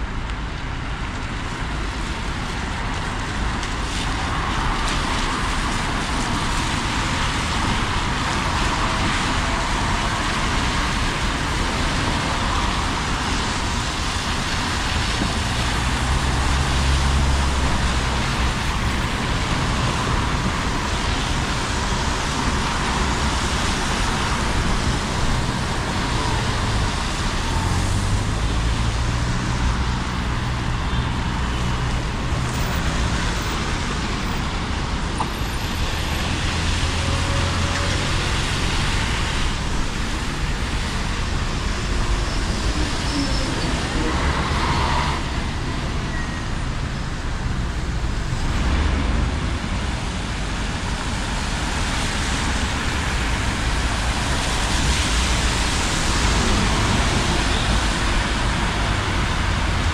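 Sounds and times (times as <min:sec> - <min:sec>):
vehicle engines rumbling: 0:00.0 - 0:59.9
tyres hissing on wet road: 0:00.1 - 0:59.9.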